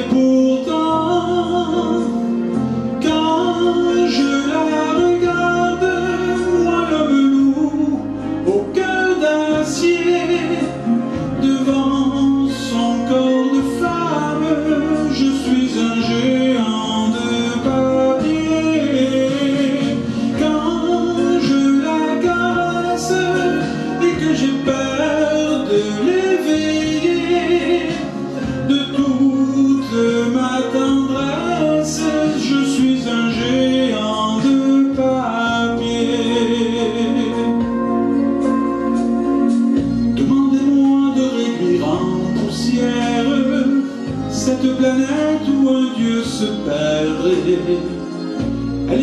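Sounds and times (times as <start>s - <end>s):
backing music with guitar: 0.0s - 49.0s
instrumental accompaniment with bass: 0.0s - 49.0s
man singing into a microphone: 0.0s - 49.0s.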